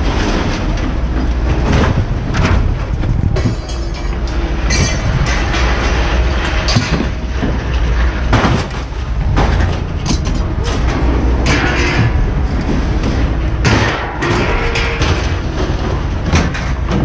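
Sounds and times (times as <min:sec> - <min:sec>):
scrap metal clanking and banging: 0:00.0 - 0:17.0
steady low rumble: 0:00.0 - 0:17.0.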